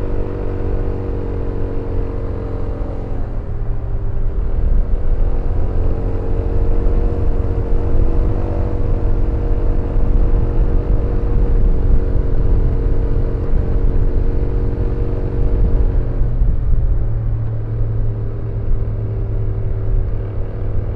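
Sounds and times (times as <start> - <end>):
wind rumble: 0.0 - 20.9.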